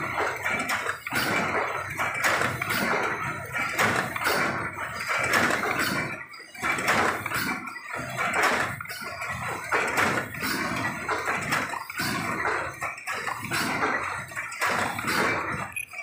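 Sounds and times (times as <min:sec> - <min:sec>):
machine clattering: 0:00.0 - 0:16.0.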